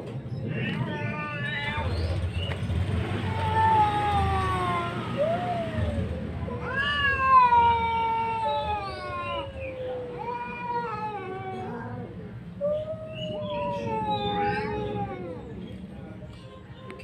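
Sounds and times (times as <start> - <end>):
cats yowling: 0.4 - 2.3, 3.0 - 16.2.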